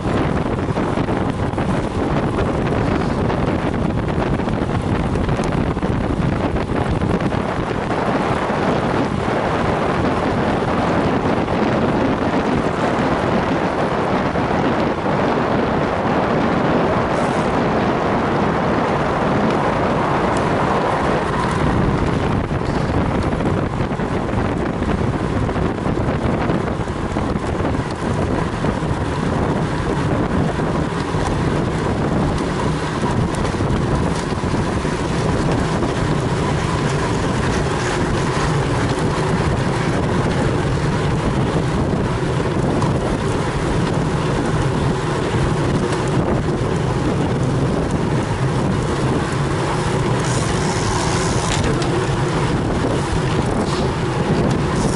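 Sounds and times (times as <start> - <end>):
wind rushing on microphone: 0.0 - 54.9.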